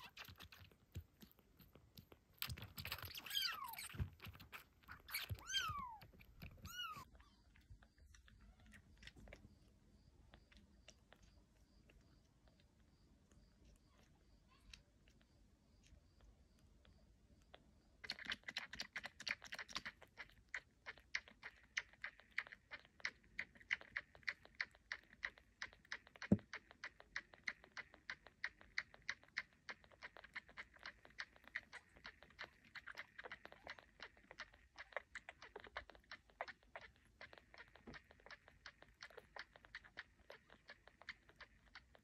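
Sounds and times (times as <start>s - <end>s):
kitten sucking clicks: 0.0s - 42.0s.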